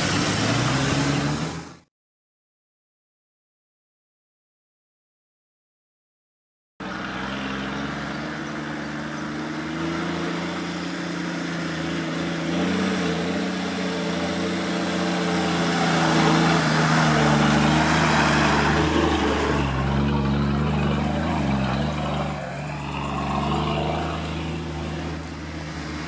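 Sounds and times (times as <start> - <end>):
off-road vehicle engine under load: 0.0 - 1.9, 6.8 - 26.0.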